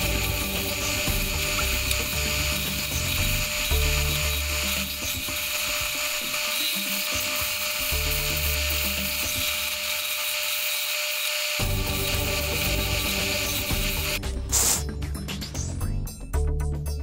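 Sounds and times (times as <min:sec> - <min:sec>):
disc sander grinding wood: 0:00.0 - 0:14.8.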